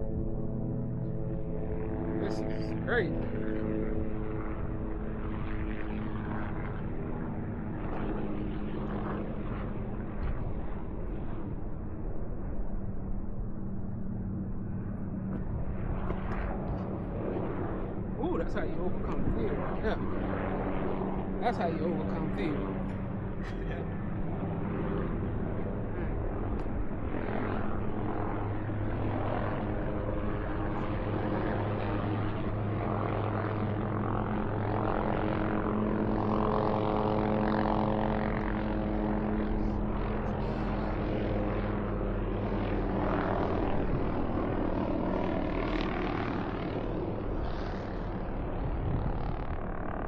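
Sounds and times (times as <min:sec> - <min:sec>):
aircraft engine droning: 0:00.0 - 0:50.0.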